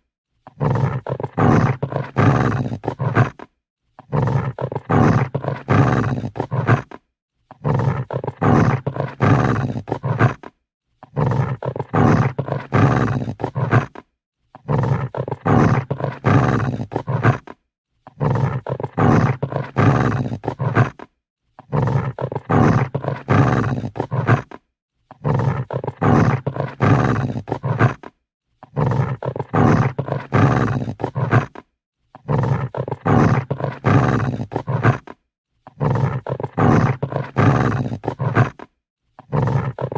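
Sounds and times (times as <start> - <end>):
dog growling: 0.5 - 39.9.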